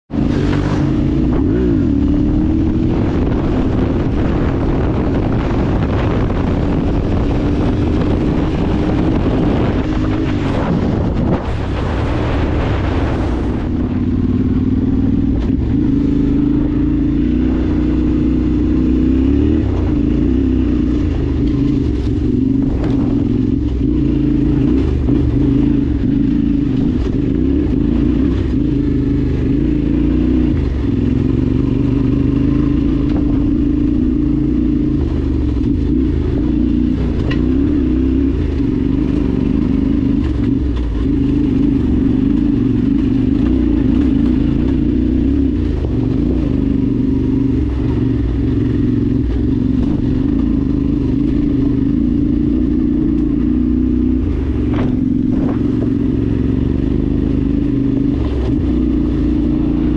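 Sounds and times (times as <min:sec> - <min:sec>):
motorcycle engine cruising: 0:00.1 - 0:59.9.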